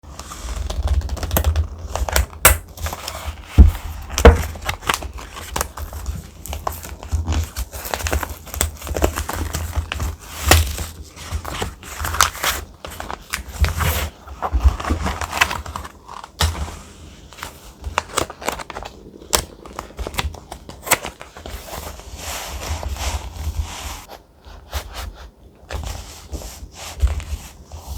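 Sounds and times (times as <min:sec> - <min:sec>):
paper crinkling: 0:00.1 - 0:24.1.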